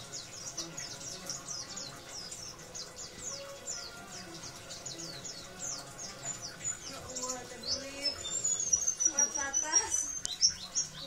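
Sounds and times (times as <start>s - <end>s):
bird chirping high notes: 0.0s - 11.0s.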